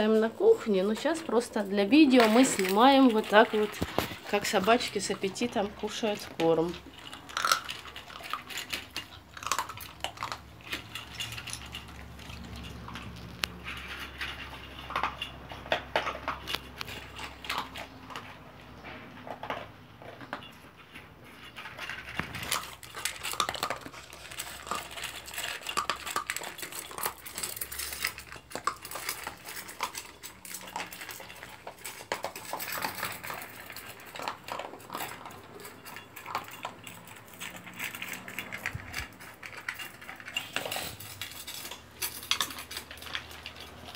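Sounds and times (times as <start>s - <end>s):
dogs crunching kibble: 0.0s - 43.9s
kibble clinking on metal bowl: 0.0s - 43.9s.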